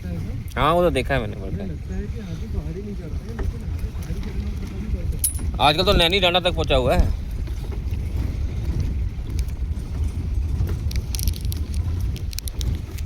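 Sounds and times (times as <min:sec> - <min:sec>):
jeep engine and road rumble: 0:00.0 - 0:13.0
vehicle rattles and clicks: 0:00.0 - 0:13.0.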